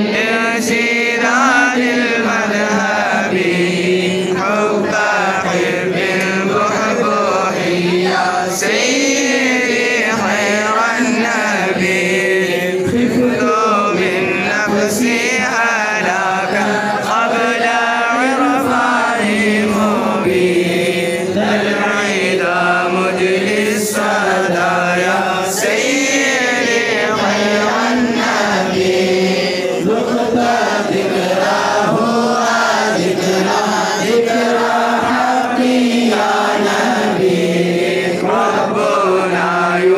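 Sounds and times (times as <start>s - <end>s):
crowd chanting: 0.0s - 39.9s.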